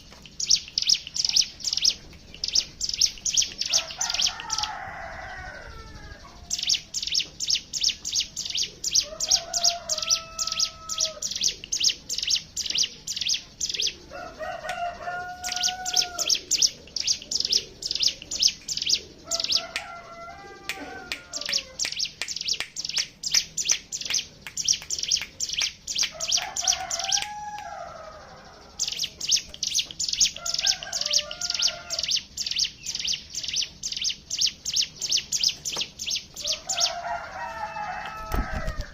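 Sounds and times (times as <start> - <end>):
birds chattering sharp chips: 0.0 - 38.9.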